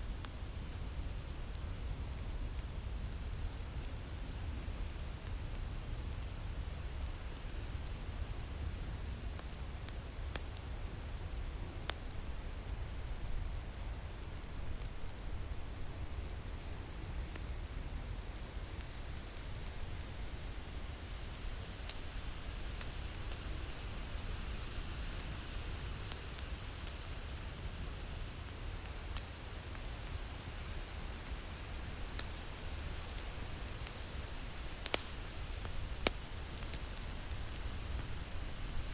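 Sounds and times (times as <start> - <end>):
fire popping and snapping: 0.0 - 38.9.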